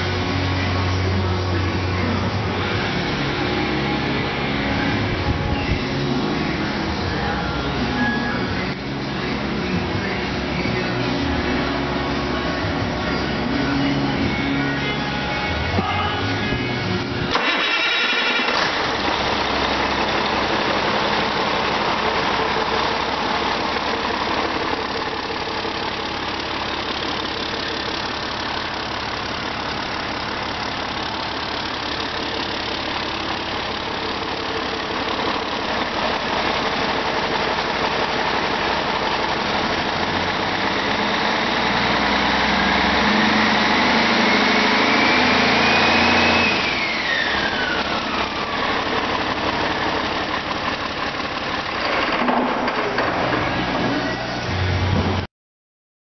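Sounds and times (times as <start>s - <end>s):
diesel engine idling and revving: 0.0s - 55.3s
engine whine: 0.0s - 55.3s.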